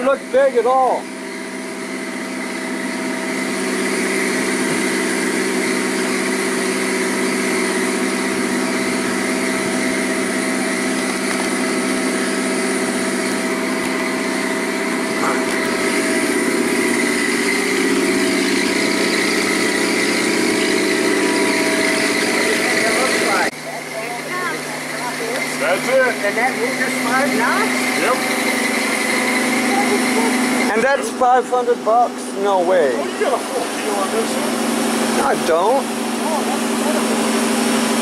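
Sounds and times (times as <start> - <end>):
boat lift engine running: 0.0 - 38.0.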